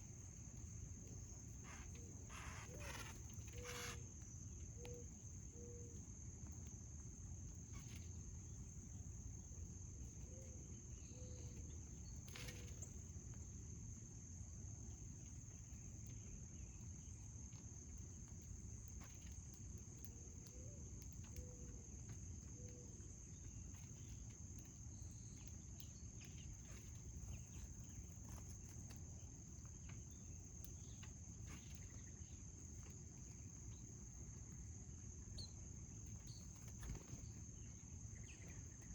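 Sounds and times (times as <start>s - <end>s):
crickets chirring: 0.0s - 38.9s
outdoor background noise: 0.0s - 38.9s.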